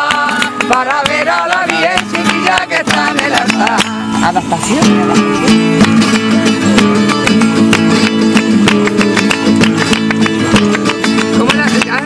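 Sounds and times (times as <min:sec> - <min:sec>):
hand clapping: 0:00.0 - 0:04.1, 0:04.8 - 0:12.0
strummed acoustic guitar: 0:00.0 - 0:12.0.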